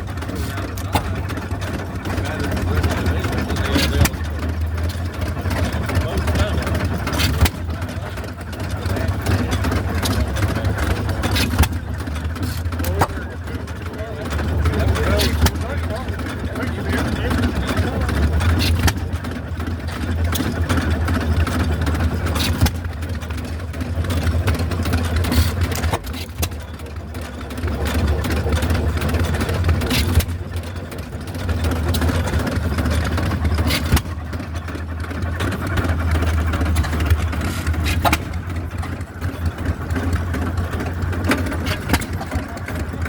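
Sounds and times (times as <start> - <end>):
gas engines droning: 0.0 - 43.0.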